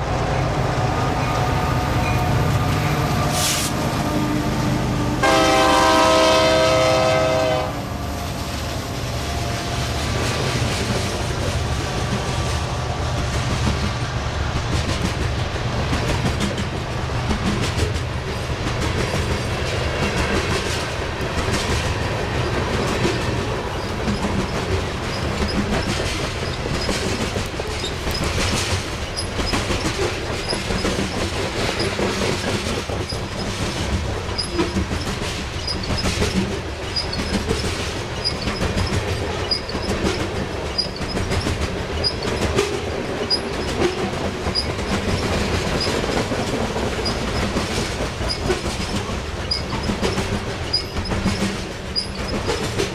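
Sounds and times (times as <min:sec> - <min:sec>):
freight train wheels rumbling: 0:00.0 - 0:52.9
wheels clicking over rail joints: 0:09.9 - 0:52.9.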